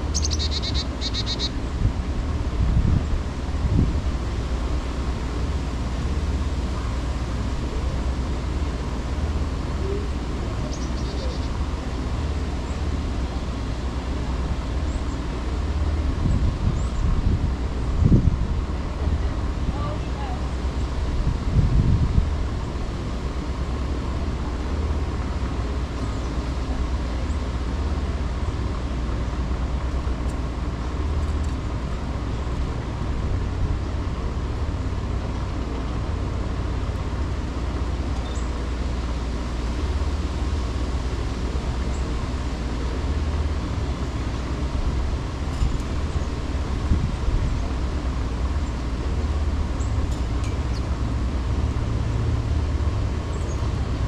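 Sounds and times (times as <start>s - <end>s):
traffic rumble: 0.0s - 54.0s
wind: 0.0s - 54.0s.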